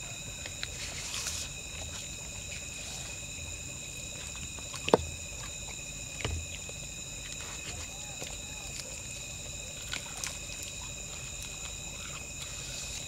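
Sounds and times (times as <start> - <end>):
night insects chirring: 0.0 - 13.0
quiet eating sounds: 0.0 - 13.0.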